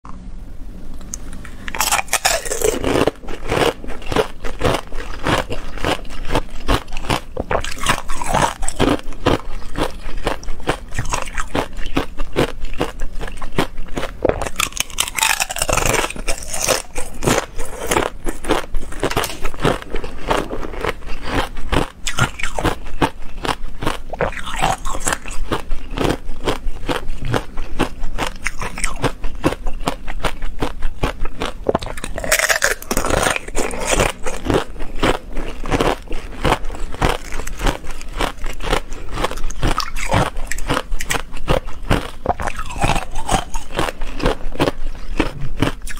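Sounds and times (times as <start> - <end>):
ice crunching between teeth: 1.4 - 45.9.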